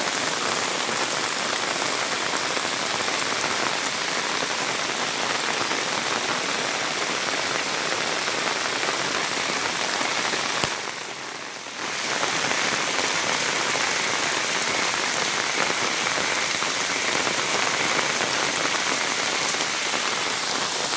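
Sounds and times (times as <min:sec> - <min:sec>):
rain falling: 0:00.0 - 0:20.9.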